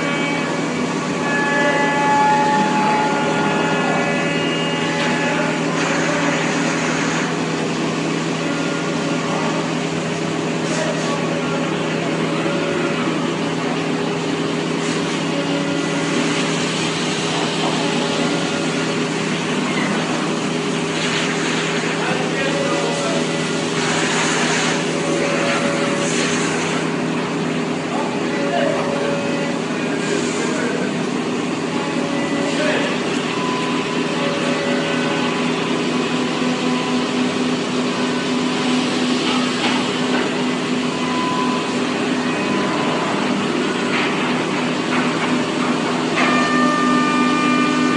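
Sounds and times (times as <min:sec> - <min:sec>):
machinery hum: 0:00.0 - 0:47.9
steady machine tones: 0:00.0 - 0:47.9.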